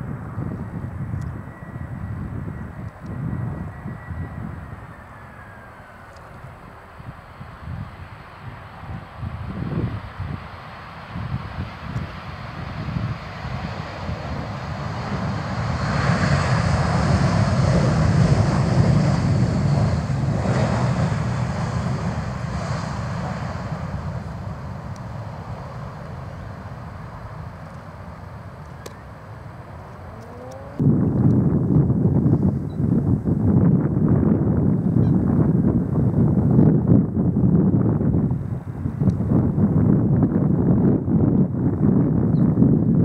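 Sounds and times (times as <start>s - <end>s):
jet engines reverse thrust roar: 0.0s - 43.0s.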